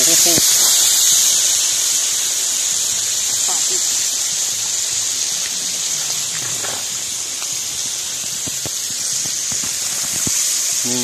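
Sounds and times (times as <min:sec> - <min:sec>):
water sizzling in a hot wok: 0:00.0 - 0:11.0.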